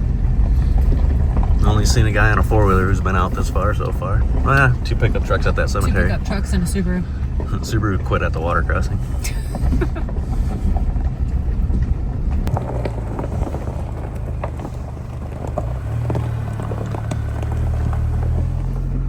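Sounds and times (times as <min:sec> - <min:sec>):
pickup engine and road drone: 0:00.0 - 0:19.0.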